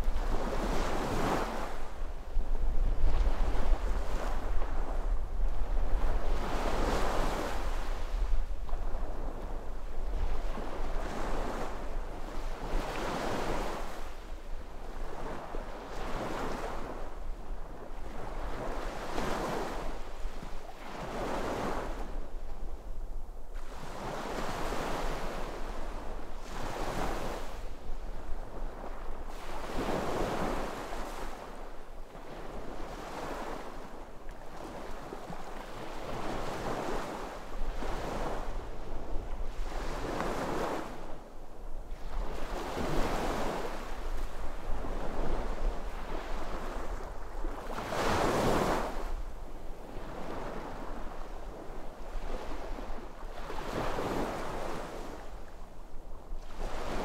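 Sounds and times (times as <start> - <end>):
sea waves breaking on shore: 0.0 - 22.2, 23.6 - 41.2, 41.9 - 55.8, 56.4 - 57.0.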